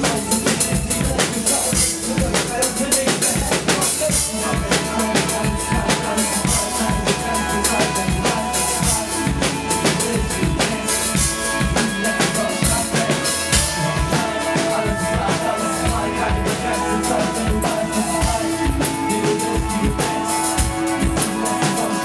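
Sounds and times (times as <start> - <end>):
drum kit playing: 0.0 - 22.0
hip hop backing track: 0.0 - 22.0.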